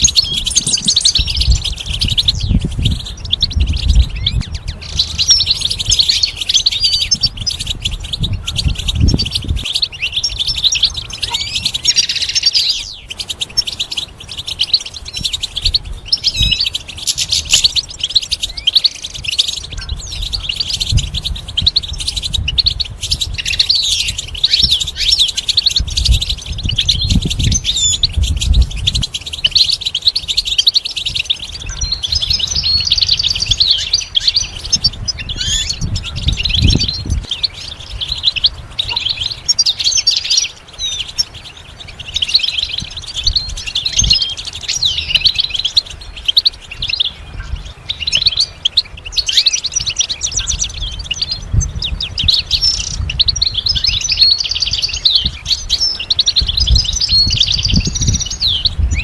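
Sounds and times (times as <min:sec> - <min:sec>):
goldfinch singing: 0:00.0 - 0:59.0.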